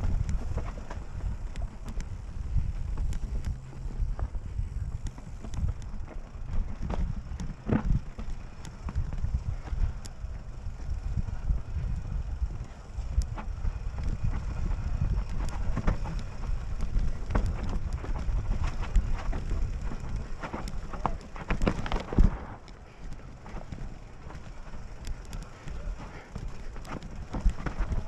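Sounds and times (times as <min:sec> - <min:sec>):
bike chain and frame rattling: 0:00.0 - 0:28.0
bike tyres crunching over rock: 0:00.0 - 0:28.0.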